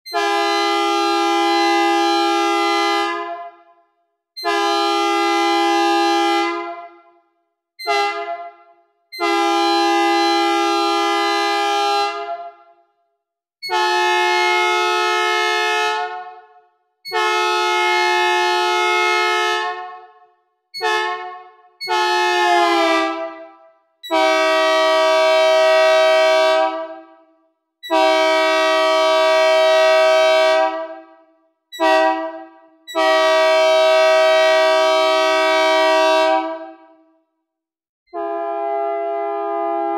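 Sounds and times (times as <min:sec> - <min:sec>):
two-chime train horn blasts: 0:00.1 - 0:12.9, 0:13.6 - 0:37.0, 0:38.1 - 0:39.9.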